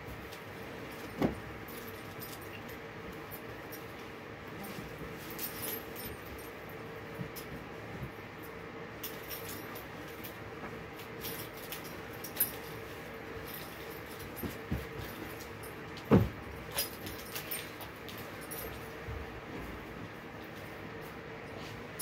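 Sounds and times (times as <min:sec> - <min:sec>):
light clinks and rustles: 0:00.1 - 0:22.0.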